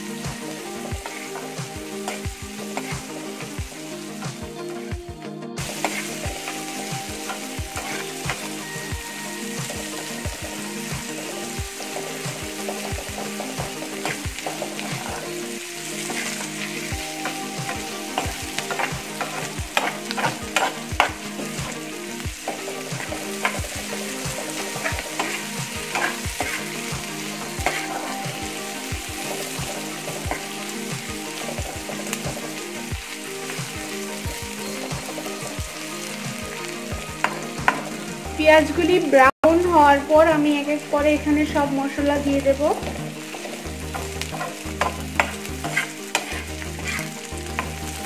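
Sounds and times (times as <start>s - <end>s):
onions sizzling in hot oil: 0.0s - 5.0s, 5.6s - 48.0s
steel spoon scraping a pan: 0.1s - 4.9s, 5.6s - 38.2s, 42.5s - 48.0s.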